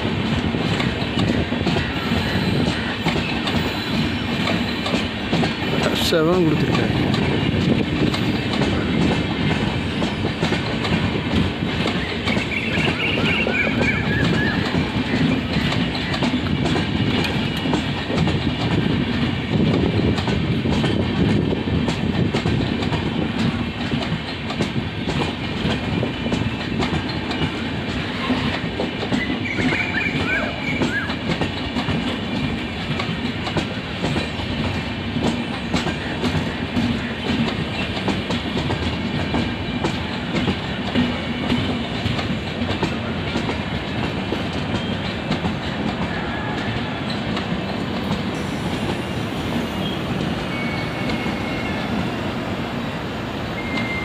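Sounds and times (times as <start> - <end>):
low train rumble: 0.0 - 54.0
train wheels clattering over rails: 0.0 - 54.0.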